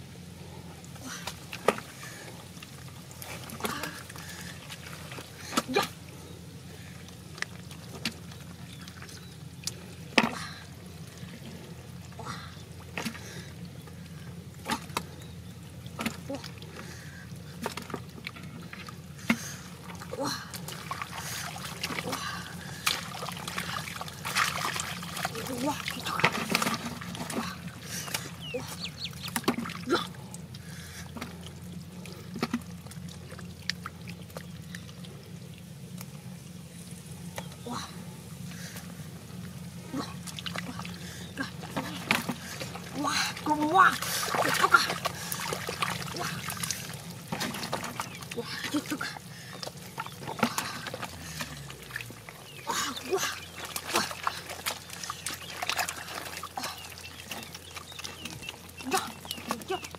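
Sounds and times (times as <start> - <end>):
steady low hum: 0.0 - 59.9
water splashing and dripping: 0.5 - 36.6, 38.6 - 59.9.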